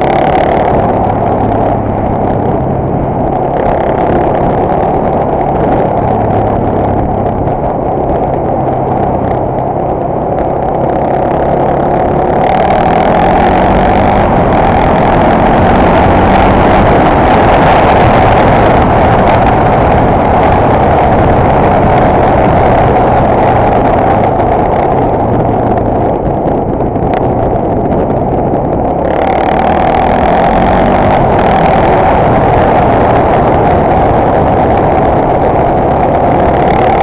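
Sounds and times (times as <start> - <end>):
motorcycle engine running: 0.0 - 37.0
wind rush: 0.0 - 37.0.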